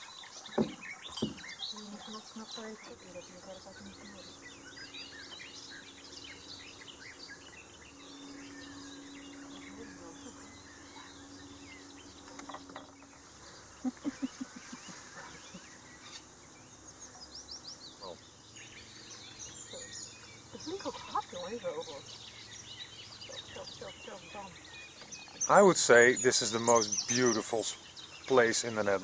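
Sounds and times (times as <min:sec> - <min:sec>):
songbirds chirping: 0:00.0 - 0:29.0
steady low hum: 0:00.0 - 0:29.0.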